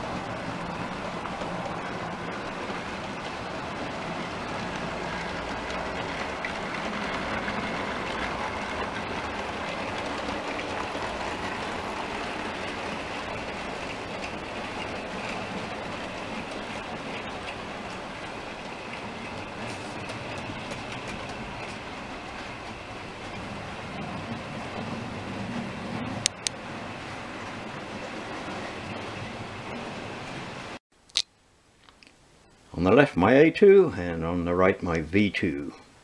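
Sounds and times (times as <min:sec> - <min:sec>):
model trains rolling on track: 0:00.0 - 0:30.8.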